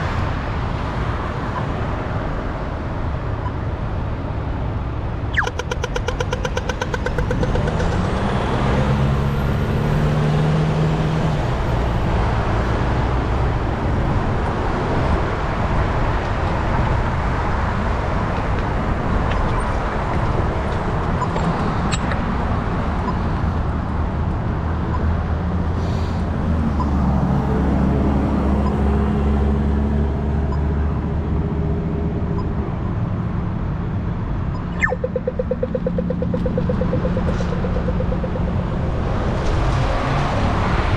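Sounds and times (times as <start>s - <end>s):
passing road traffic: 0.0s - 40.9s.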